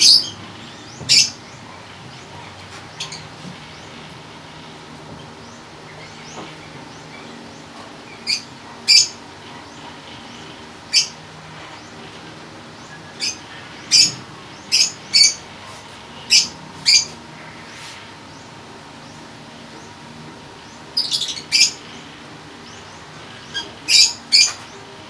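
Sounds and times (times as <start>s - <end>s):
bird chirping: 0.0s - 24.9s.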